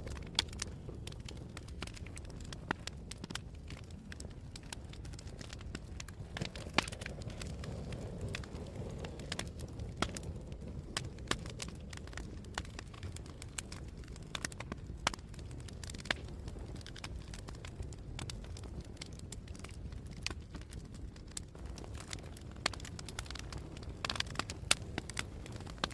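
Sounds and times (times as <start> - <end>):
sharp pops of fire: 0.0 - 25.9
wood fire crackling: 0.0 - 25.9.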